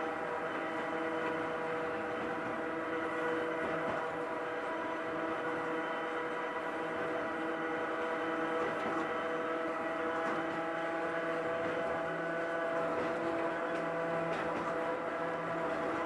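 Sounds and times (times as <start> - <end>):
electric train motor whine: 0.0 - 16.0
train wheels running noise: 0.0 - 16.0.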